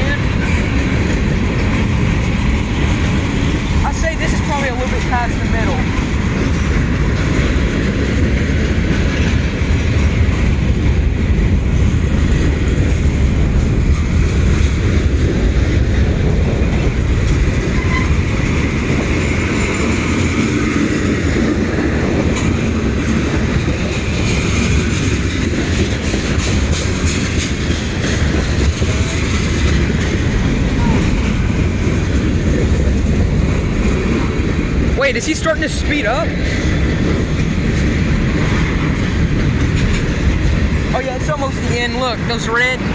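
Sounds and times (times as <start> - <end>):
train wheels rumbling on rails: 0.0 - 42.9
wheels clacking over rail joints: 0.0 - 42.9.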